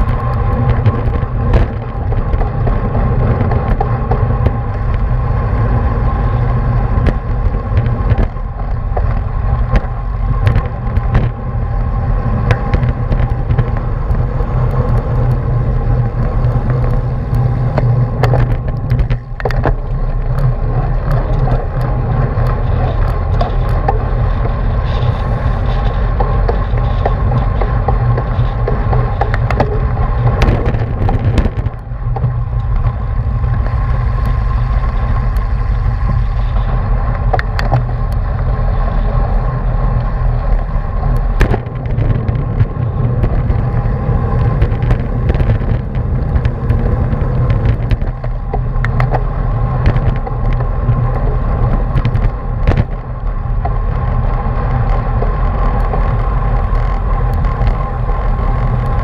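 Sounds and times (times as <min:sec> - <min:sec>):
tyre and road rumble: 0:00.0 - 0:59.0
wind buffeting microphone: 0:00.0 - 0:59.0.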